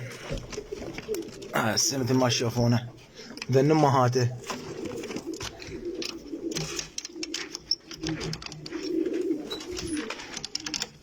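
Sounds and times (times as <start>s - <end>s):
pigeons cooing: 0.0s - 3.5s, 4.2s - 11.0s.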